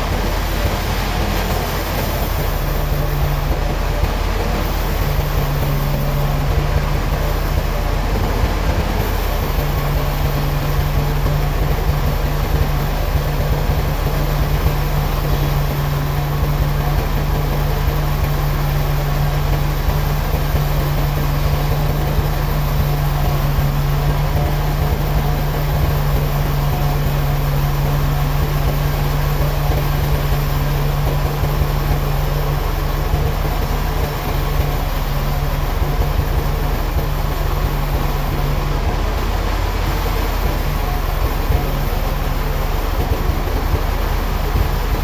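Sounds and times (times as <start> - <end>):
sawmill machinery droning: 0.0 - 45.0.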